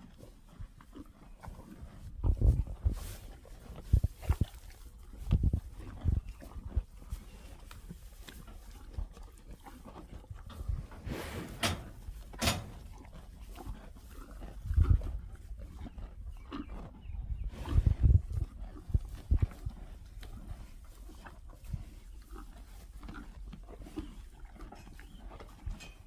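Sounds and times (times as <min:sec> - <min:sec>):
cows crunching feed: 0:00.0 - 0:26.0.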